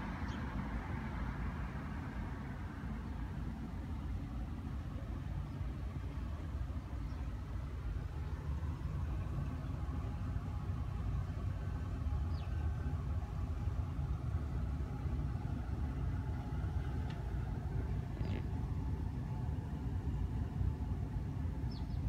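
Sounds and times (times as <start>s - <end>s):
street ambience rumble: 0.0s - 22.0s.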